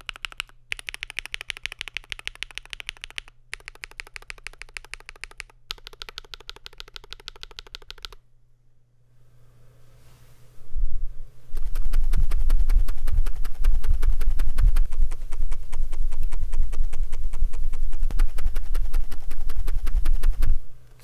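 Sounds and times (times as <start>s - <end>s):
fast mechanical keyboard typing: 0.0s - 8.2s, 11.6s - 20.5s.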